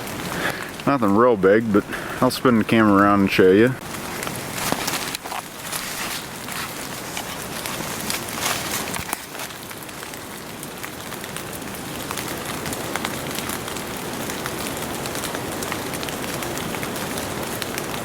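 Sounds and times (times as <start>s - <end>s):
rain falling on leaves: 0.0s - 18.0s.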